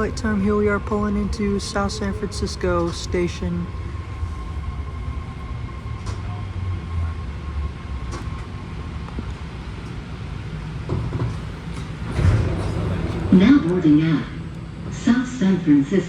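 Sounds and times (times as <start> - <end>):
train wheels rumbling on rails: 0.0 - 15.9
thin steady whine: 0.0 - 16.0.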